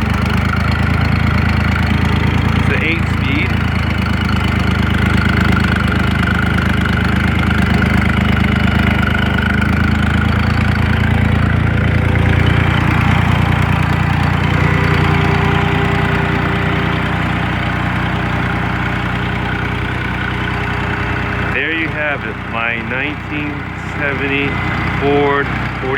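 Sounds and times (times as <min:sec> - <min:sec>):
tractor engine idling: 0:00.0 - 0:25.9.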